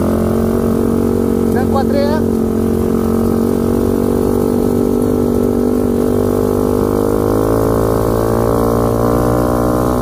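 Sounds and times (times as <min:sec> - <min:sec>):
atv engine droning: 0:00.0 - 0:10.0.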